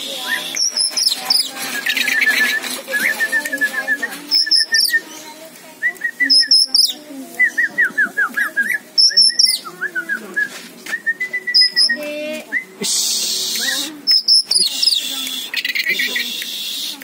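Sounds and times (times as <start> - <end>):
bird chirping: 0.0 - 9.8, 11.3 - 12.1, 13.0 - 17.0
bird whistled phrases: 0.0 - 17.0.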